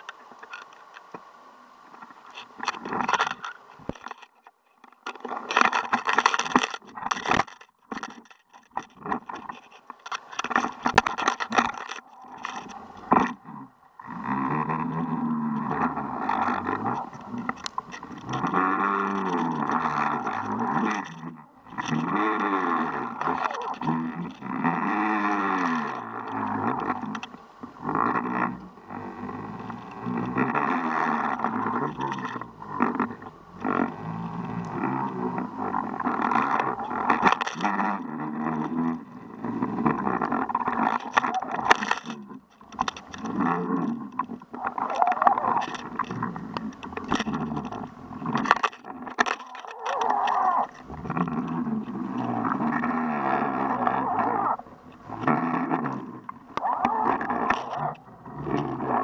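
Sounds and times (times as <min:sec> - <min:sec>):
underwater hum with varying pitch: 0:00.0 - 0:59.0
underwater knocks and rattles: 0:01.9 - 0:24.5, 0:25.1 - 0:59.0.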